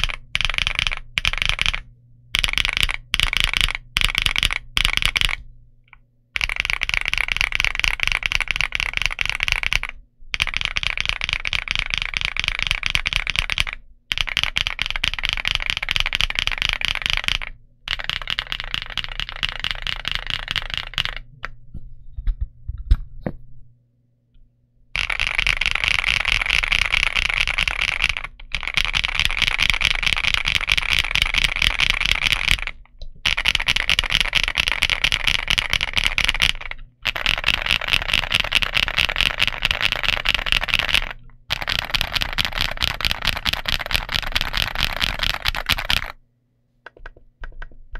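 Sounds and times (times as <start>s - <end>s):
mechanical keyboard clacking: 0.0s - 1.8s, 2.4s - 5.4s, 6.4s - 21.3s, 25.0s - 46.2s, 46.9s - 47.9s.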